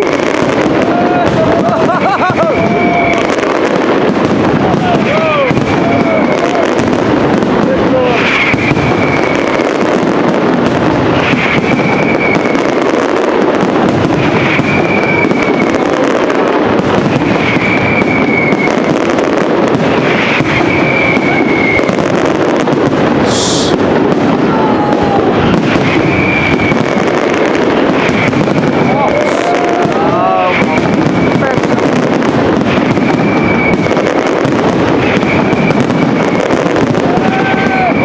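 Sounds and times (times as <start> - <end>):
firework whistle: 0.0 - 38.0
fireworks bangs and crackles: 0.0 - 38.0.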